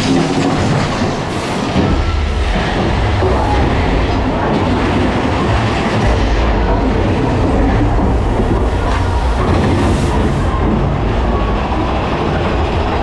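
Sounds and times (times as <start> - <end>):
roller coaster rumbling on track: 0.0 - 13.0
wheels and cars rattling: 0.0 - 13.0.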